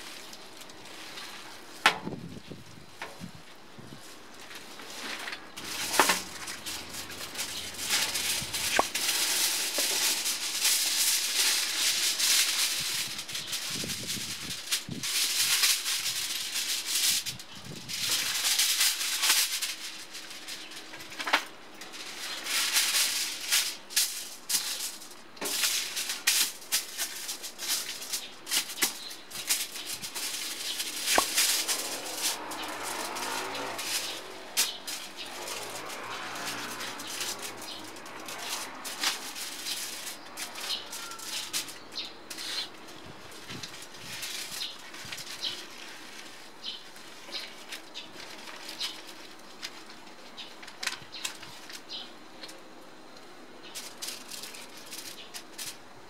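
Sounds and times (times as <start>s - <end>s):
aluminium foil crinkling: 0.0s - 56.0s.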